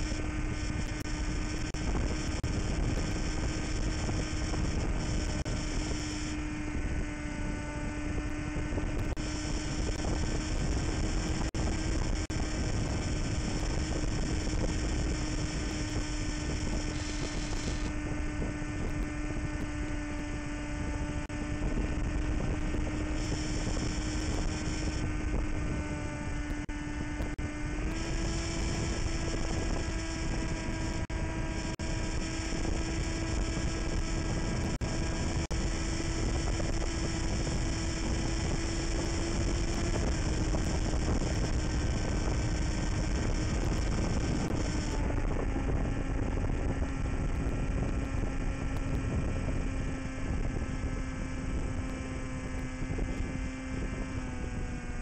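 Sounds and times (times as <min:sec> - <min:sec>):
electric motor and propeller buzzing: 0:00.0 - 0:55.0
wind rush over microphone: 0:00.0 - 0:55.0.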